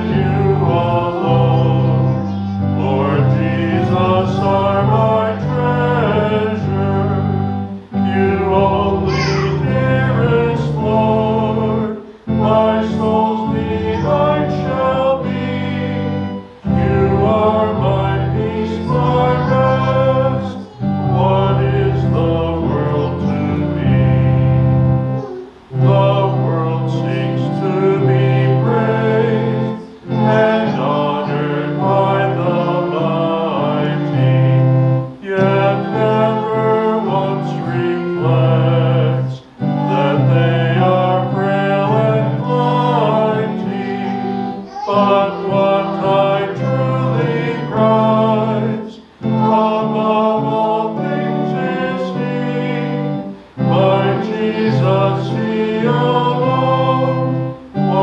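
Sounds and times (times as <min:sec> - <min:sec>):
congregation singing a hymn: 0:00.0 - 0:58.0
instrumental accompaniment: 0:00.0 - 0:58.0.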